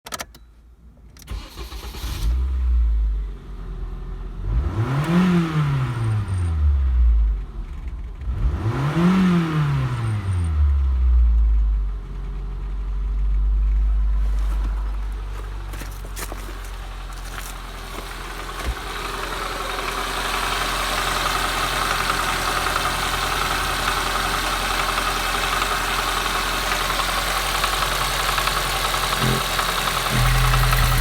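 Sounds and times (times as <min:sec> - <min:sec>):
petrol engine starting and revving: 0:01.3 - 0:31.0.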